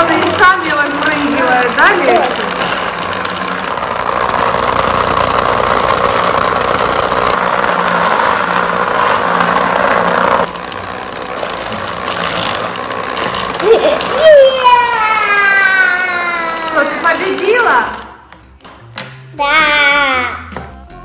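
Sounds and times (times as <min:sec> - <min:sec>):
plastic pieces bouncing: 0:00.0 - 0:15.0, 0:15.7 - 0:19.0
vibrating toy bed buzzing: 0:00.0 - 0:18.4.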